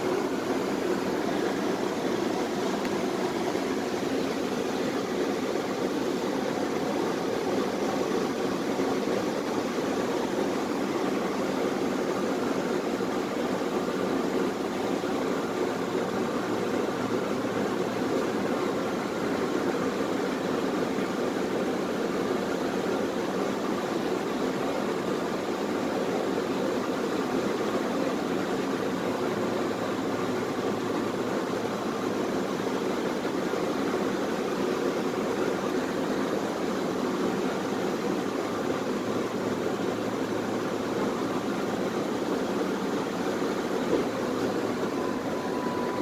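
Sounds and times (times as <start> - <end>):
steady tram interior noise: 0.0 - 46.0.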